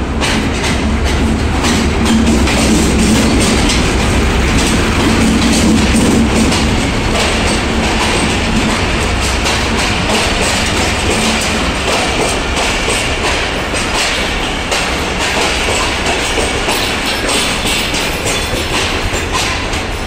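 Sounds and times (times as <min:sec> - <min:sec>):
train wheels rumbling on rail: 0:00.0 - 0:20.0
wheels clicking over rail joints: 0:00.1 - 0:20.0.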